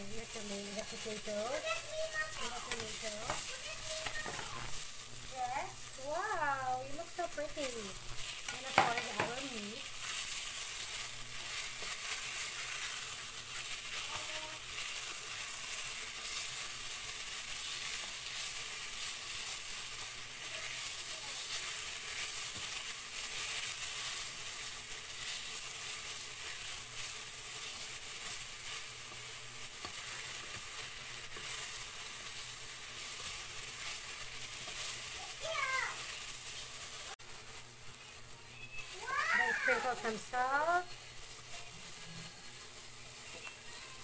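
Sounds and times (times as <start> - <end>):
food frying in a pan: 0.0 - 44.0
spatula stirring and scraping: 0.0 - 44.0.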